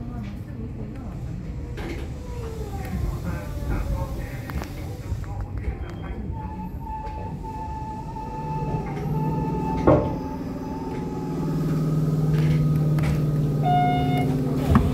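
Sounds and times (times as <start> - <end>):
low steady train hum: 0.0 - 14.9
thin steady train whine: 0.0 - 14.9.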